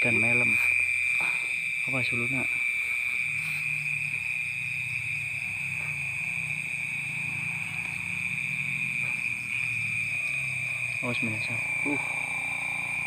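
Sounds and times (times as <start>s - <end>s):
crickets chirping: 0.0s - 13.0s
low drone: 0.0s - 13.0s.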